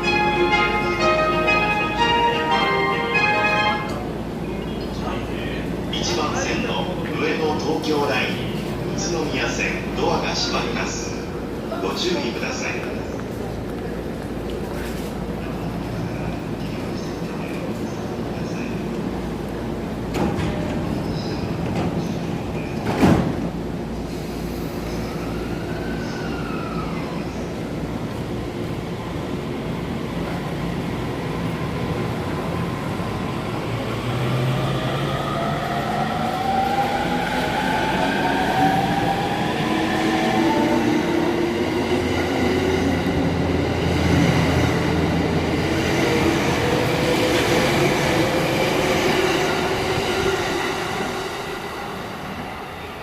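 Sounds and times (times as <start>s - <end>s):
train wheel and rail noise: 0.0s - 53.0s.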